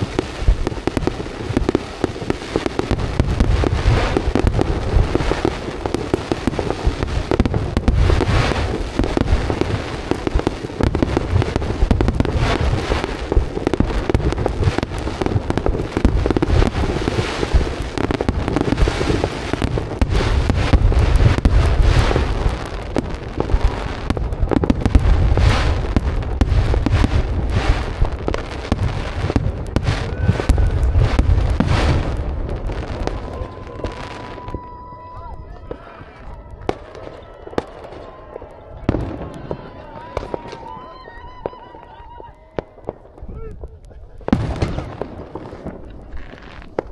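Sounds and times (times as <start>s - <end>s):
fireworks booming: 0.0s - 46.9s
fireworks crackling: 0.0s - 46.9s.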